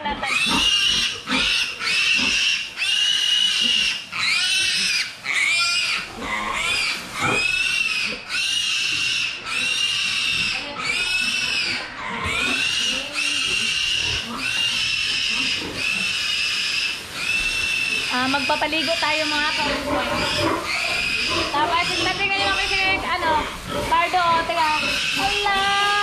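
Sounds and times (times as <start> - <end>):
pig squealing: 0.0 - 26.0.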